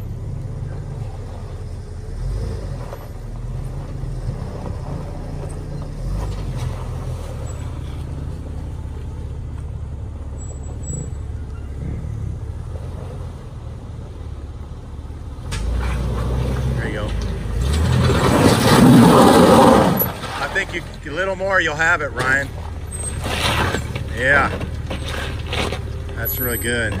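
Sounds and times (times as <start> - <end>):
car engine running at low revs: 0.0 - 27.0.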